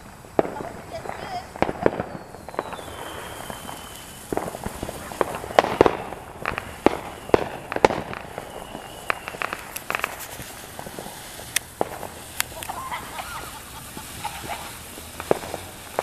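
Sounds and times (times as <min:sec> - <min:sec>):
firework cracks and pops: 0:00.0 - 0:16.0
firework fountain hissing: 0:00.0 - 0:16.0.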